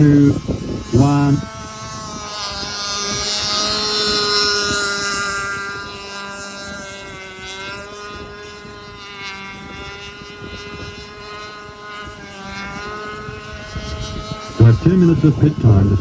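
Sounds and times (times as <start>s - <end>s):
model boat motor whining: 0.0s - 16.0s.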